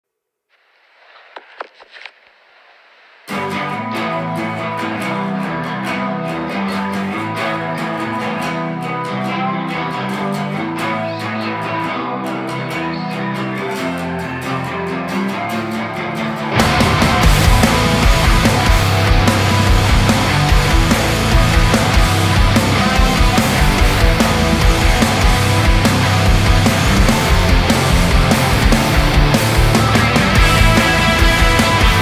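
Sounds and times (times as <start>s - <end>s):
plucked guitar song: 3.3s - 32.0s.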